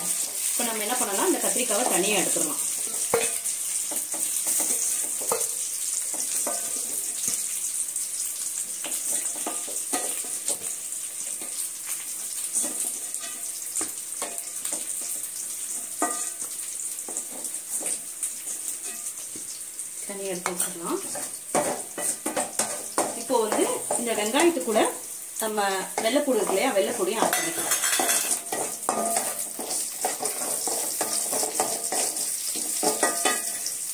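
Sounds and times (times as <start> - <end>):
vegetables sizzling in oil: 0.0 - 33.9
wooden spatula scraping a pan: 0.1 - 7.6, 8.5 - 19.6, 20.4 - 24.8, 25.9 - 33.8.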